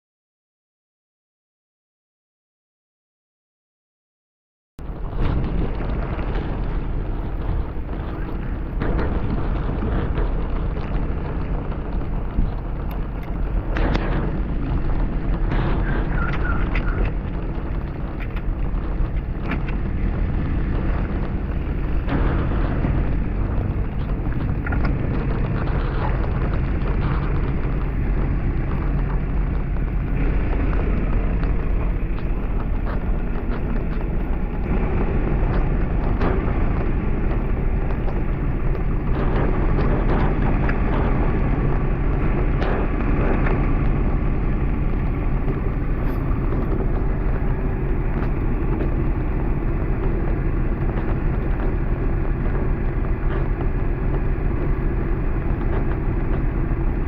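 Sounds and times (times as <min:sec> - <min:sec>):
vehicle engine running: 0:04.8 - 0:57.0
wind noise on microphone: 0:04.8 - 0:57.0.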